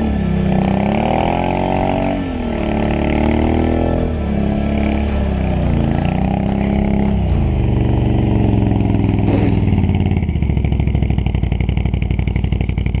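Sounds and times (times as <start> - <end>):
atv engine revving and idling: 0.0 - 13.0.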